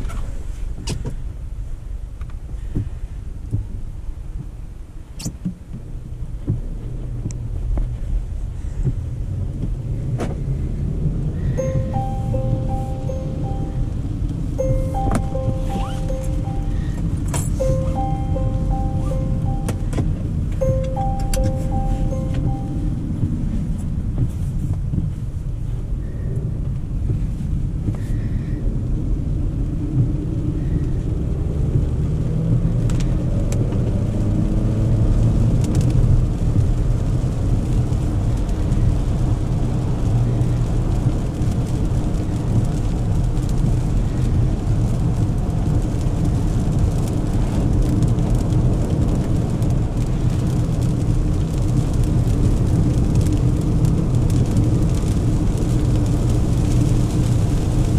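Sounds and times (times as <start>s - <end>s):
tyre and road rumble: 0.0s - 57.9s
car engine accelerating: 5.9s - 28.0s, 28.7s - 57.9s.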